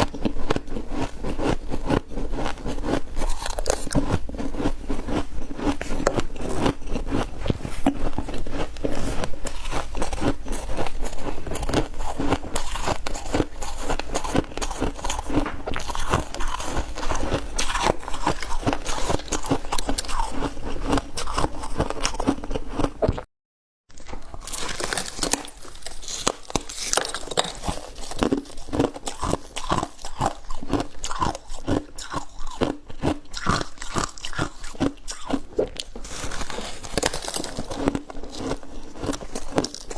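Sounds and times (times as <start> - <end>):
chewing crunchy ice: 0.0 - 23.3, 23.9 - 39.9.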